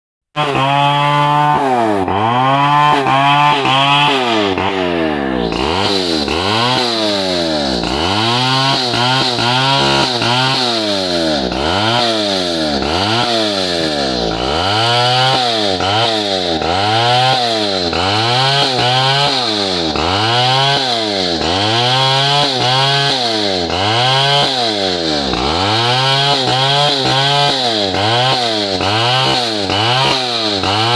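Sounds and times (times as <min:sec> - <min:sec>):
chainsaw cutting wood: 0:00.3 - 0:30.9.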